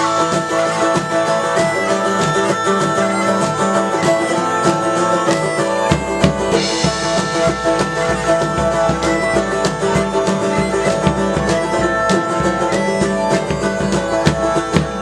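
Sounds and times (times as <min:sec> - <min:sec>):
bagpipes over a drone: 0:00.0 - 0:15.0
deep drum beats: 0:00.0 - 0:15.0
plucked strings: 0:00.0 - 0:15.0.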